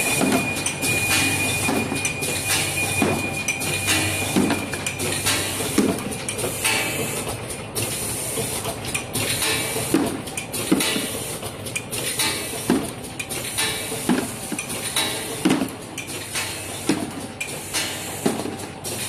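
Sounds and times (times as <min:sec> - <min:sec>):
wrapping machine clatter: 0:00.0 - 0:19.0.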